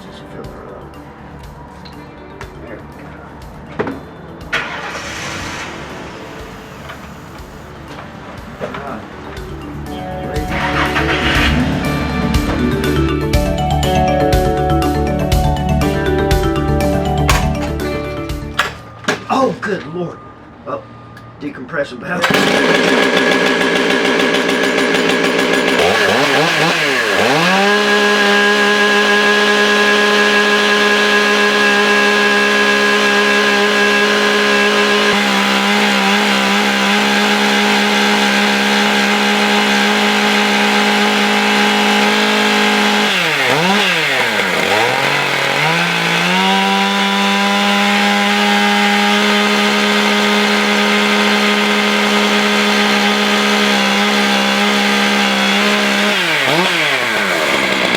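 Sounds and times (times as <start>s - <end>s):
chainsaw engine revving: 4.6s - 16.4s, 17.0s - 18.0s, 22.2s - 57.9s.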